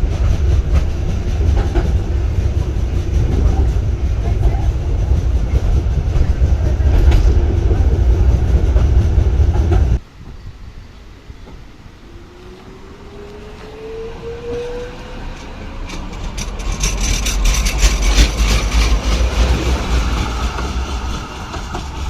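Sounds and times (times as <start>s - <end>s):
wheels clacking on rails: 0.0s - 10.4s, 11.4s - 22.0s
tram rumbling: 0.0s - 22.0s.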